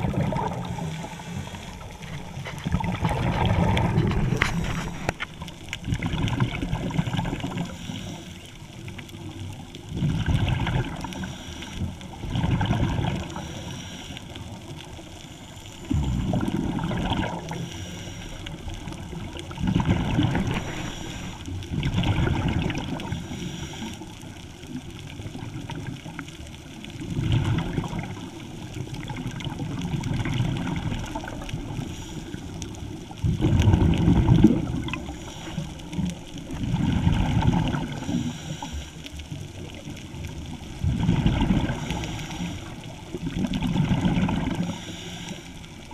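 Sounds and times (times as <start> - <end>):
underwater regulator bubbles gurgling: 0.0 - 45.9.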